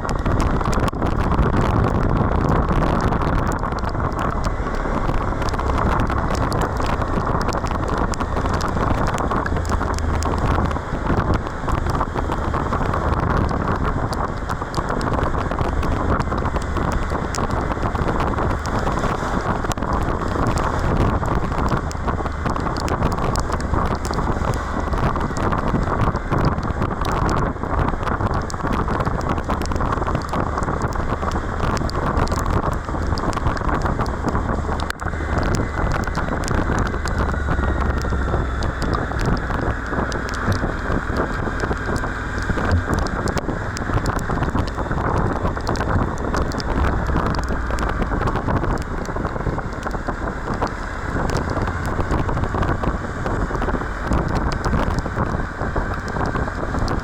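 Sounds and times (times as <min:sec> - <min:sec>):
raindrop ticks: 0:00.0 - 0:57.0
wind rushing over microphone: 0:00.0 - 0:57.0.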